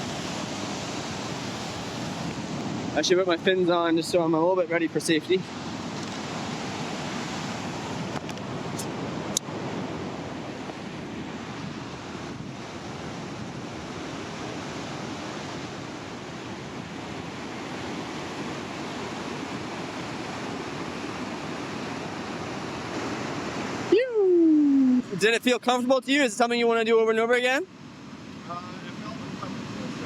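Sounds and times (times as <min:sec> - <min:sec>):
river rapid whitewater rushing: 0:00.0 - 0:30.0.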